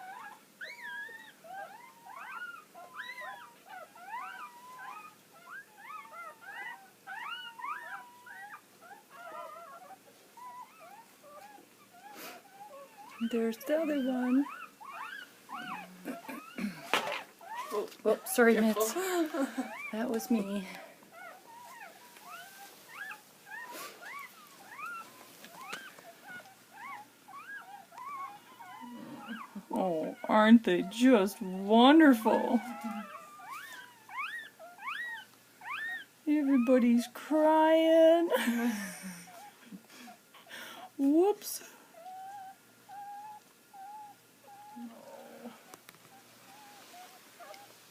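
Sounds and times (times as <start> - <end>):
puppies squeaking and whimpering: 0.0 - 41.3, 42.0 - 47.9.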